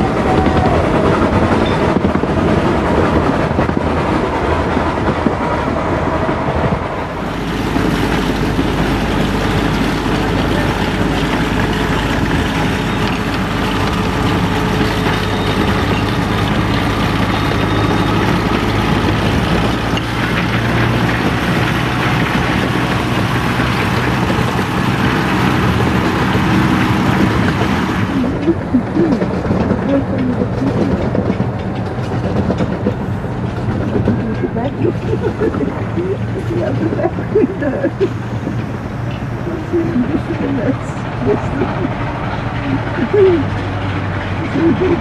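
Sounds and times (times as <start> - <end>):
diesel locomotive engine: 0.0 - 45.0
wheels on rails: 0.0 - 45.0.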